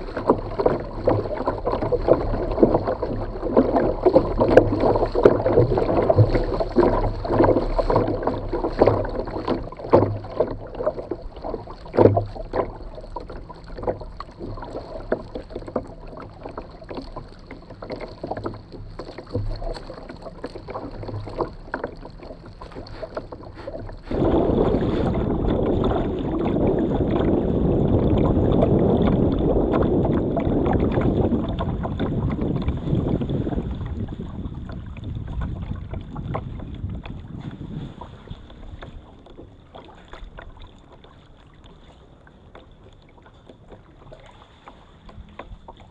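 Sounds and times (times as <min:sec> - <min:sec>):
rushing water and wind: 0:00.0 - 0:45.9
water splashing against boat hull: 0:00.0 - 0:45.9.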